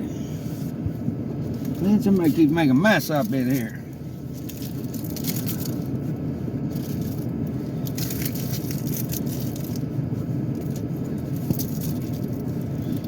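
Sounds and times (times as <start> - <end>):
car engine idling: 0.0 - 13.0
rustling and crinkling: 0.4 - 13.0.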